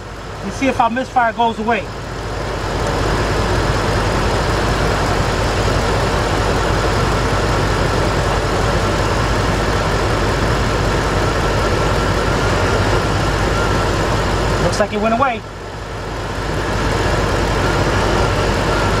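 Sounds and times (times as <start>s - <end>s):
car engine idling with misfire: 0.0s - 19.0s.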